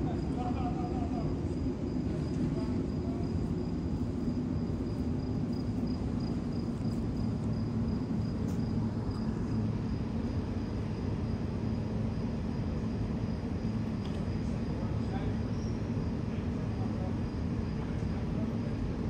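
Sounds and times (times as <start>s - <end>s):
low mechanical hum and rumble: 0.0s - 19.0s.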